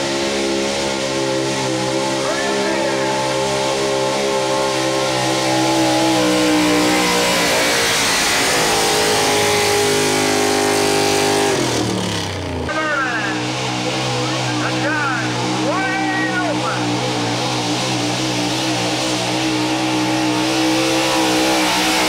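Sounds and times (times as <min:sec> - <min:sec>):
truck engine high-revving drone: 0:00.0 - 0:22.0.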